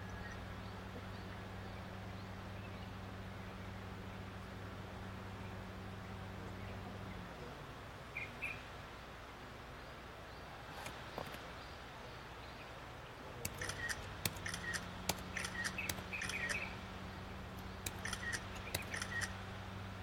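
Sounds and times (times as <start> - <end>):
birds chirping: 0.0 - 20.0
low steady hum: 0.0 - 20.0.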